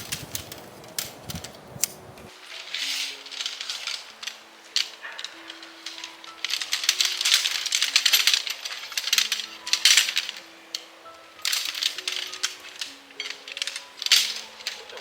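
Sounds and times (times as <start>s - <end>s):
small hard objects clattering: 0.0s - 15.0s
soft background music: 0.0s - 15.0s.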